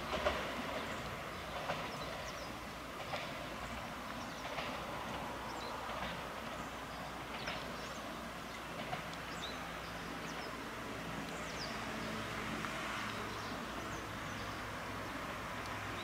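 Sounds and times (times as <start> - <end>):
faint train running noise: 0.0 - 16.0.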